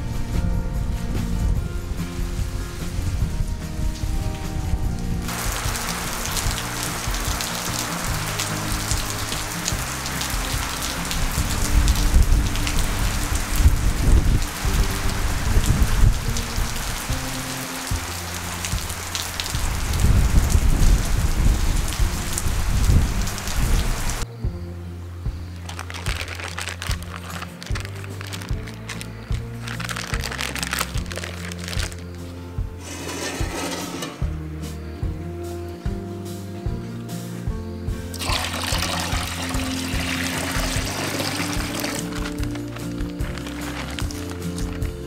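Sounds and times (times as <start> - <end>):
deep rumbles: 0.0 - 45.0
steady rain falling: 0.1 - 24.3, 25.1 - 33.7, 38.1 - 45.0.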